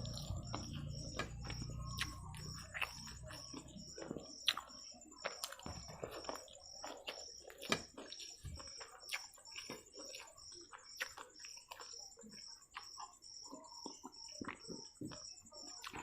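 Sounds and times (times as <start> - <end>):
faint high chirp: 0.0 - 16.0
wet chewing and lip-smacking: 0.0 - 16.0.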